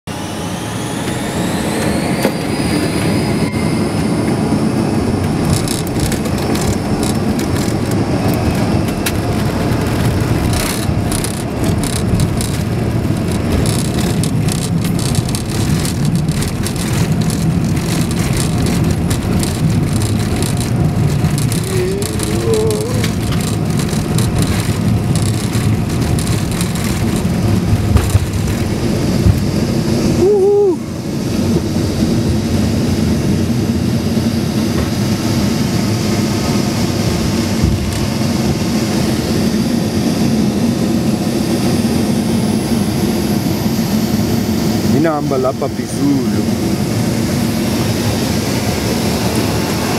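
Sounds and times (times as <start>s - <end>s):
jet engines whining and rushing: 0.1s - 49.9s.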